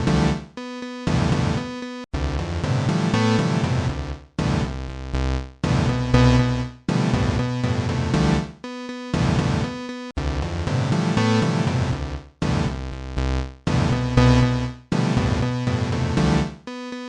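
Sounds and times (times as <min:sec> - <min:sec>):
synthesizer chords: 0:00.0 - 0:04.8, 0:05.6 - 0:16.9.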